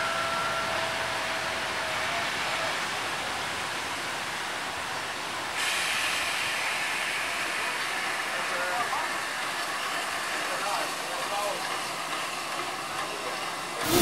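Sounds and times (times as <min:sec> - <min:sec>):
steam hiss: 0:00.0 - 0:14.0
train running noise: 0:00.0 - 0:14.0.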